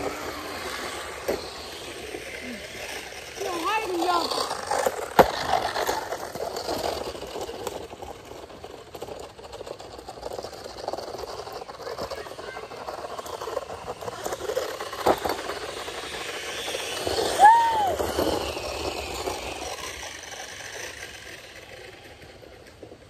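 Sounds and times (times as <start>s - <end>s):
scooter wheels splashing through mud: 0.0s - 22.3s.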